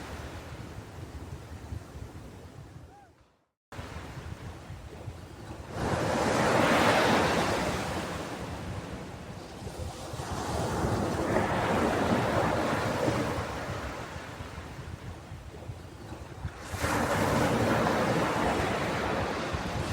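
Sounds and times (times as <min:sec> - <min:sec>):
ocean waves breaking on beach: 0:00.0 - 0:03.1, 0:03.8 - 0:19.9.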